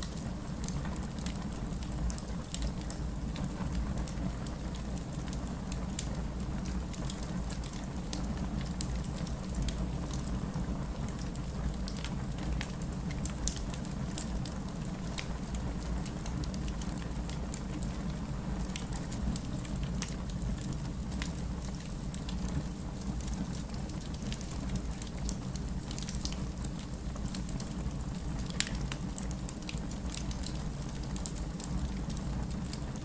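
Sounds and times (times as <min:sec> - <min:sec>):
low rumble of burning logs: 0:00.0 - 0:33.0
wood fire crackling: 0:00.0 - 0:33.0.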